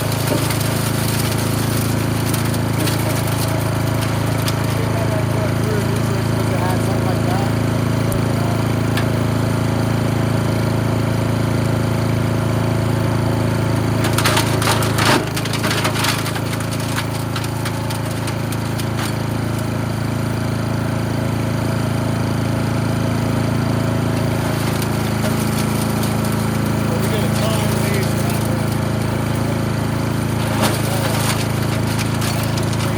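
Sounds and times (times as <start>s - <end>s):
chipper shredder engine running: 0.0s - 32.9s.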